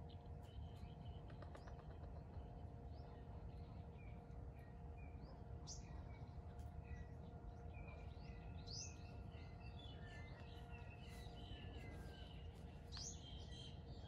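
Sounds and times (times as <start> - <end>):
faint steady hum: 0.0 - 14.0
small birds chirping: 0.0 - 14.0.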